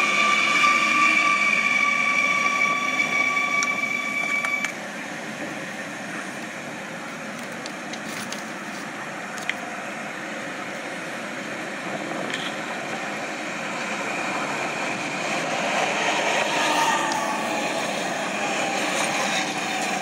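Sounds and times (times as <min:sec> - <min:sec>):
electric train whine: 0:00.0 - 0:20.0.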